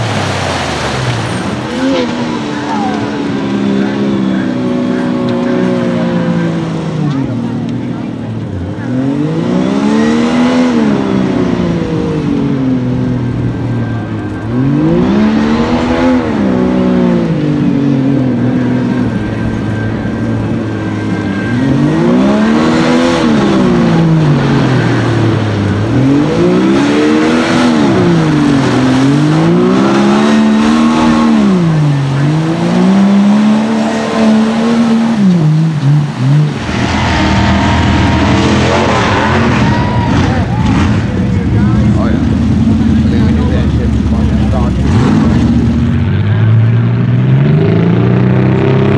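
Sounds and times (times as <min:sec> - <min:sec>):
engine revving at full throttle: 0:00.0 - 0:48.9
steadier engine sound: 0:00.0 - 0:48.9
tyres churning mud: 0:00.0 - 0:48.9.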